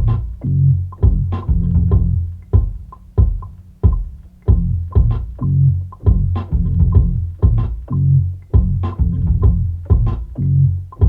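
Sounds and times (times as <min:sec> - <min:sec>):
plucked bass line: 0:00.0 - 0:11.0.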